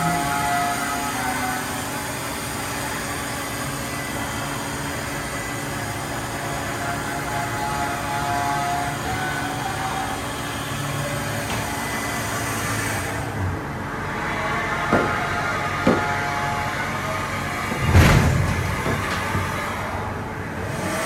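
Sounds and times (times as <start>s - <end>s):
industrial machinery humming: 0.0s - 21.0s
machinery whining tones: 0.0s - 21.0s.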